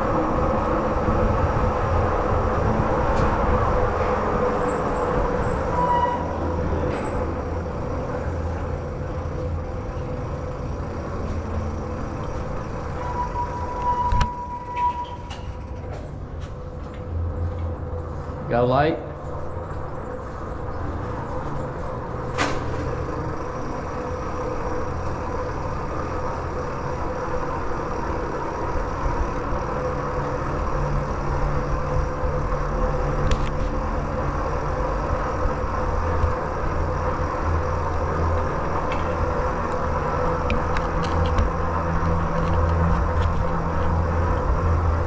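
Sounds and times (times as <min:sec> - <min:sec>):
vehicle rumbling through tunnel: 0:00.0 - 0:45.0.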